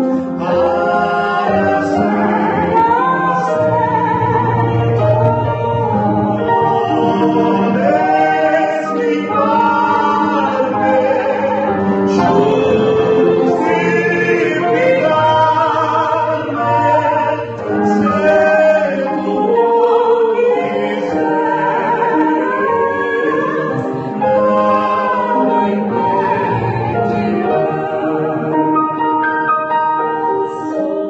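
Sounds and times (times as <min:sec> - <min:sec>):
piano accompaniment: 0:00.0 - 0:31.0.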